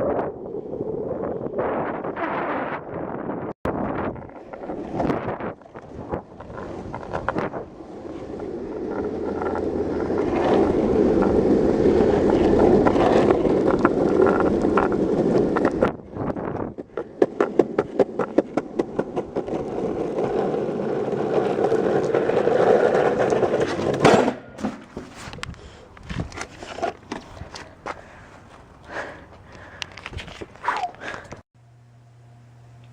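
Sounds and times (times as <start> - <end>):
longboard wheels rolling on pavement: 0.0 - 31.4.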